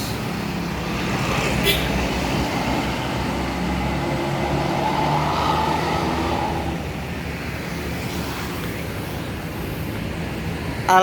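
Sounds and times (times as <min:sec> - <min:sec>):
diesel bus engine running: 0:00.0 - 0:08.0, 0:08.6 - 0:11.0.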